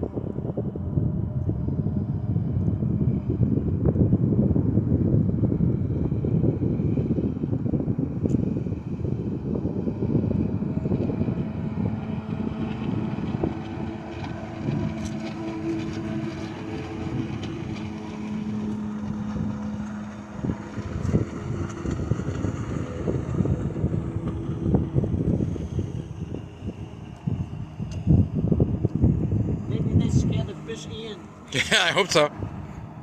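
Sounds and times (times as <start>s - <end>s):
jet ski engine drone: 0.0s - 33.0s
wind buffeting microphone: 0.0s - 33.0s.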